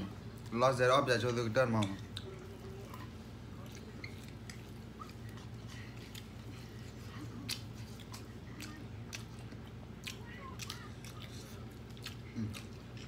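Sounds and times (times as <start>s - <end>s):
person chewing crunchily: 1.8s - 13.0s.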